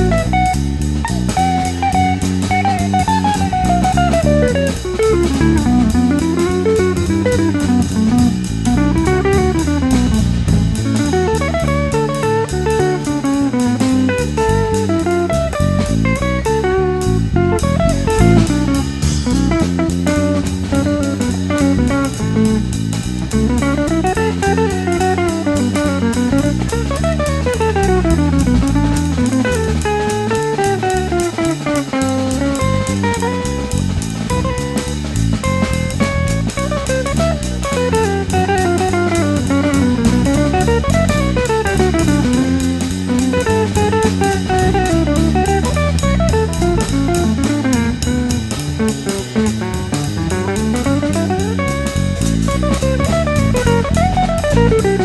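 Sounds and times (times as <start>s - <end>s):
drum kit beat: 0.0s - 55.0s
guitar melody: 0.0s - 55.0s.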